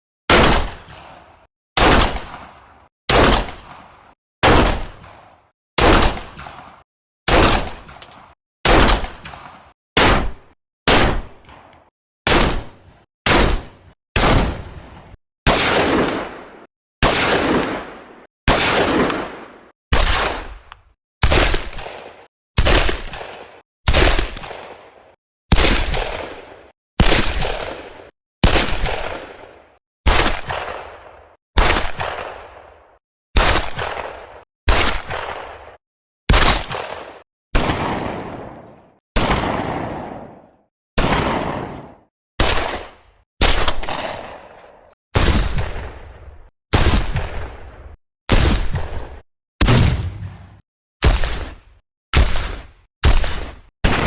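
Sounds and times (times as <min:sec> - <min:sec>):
pistol gunshots with echo: 0:00.3 - 0:46.1, 0:48.3 - 0:51.6, 0:52.2 - 0:54.0.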